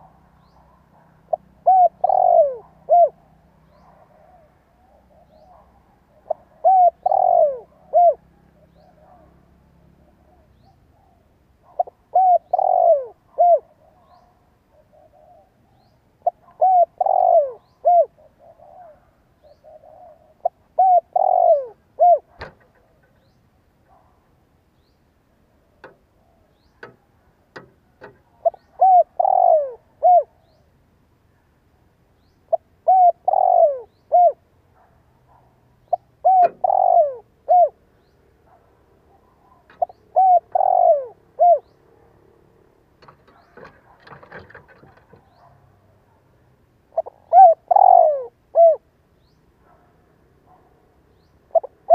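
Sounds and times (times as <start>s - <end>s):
dove cooing: 0.0s - 24.3s, 25.5s - 30.6s, 32.5s - 46.2s, 46.8s - 48.9s, 51.5s - 51.9s.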